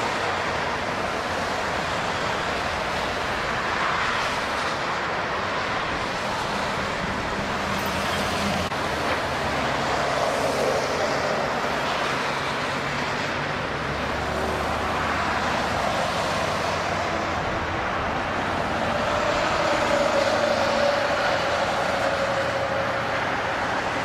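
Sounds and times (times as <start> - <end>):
freeway traffic passing: 0.0 - 24.0.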